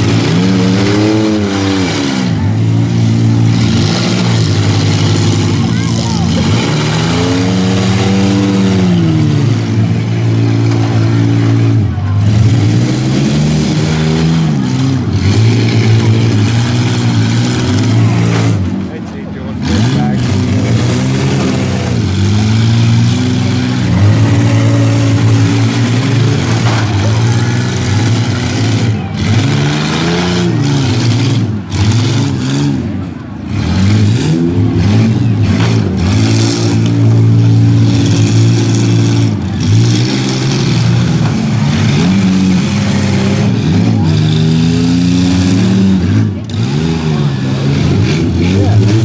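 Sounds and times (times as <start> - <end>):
minivan engines revving hard: 0.0 - 49.0.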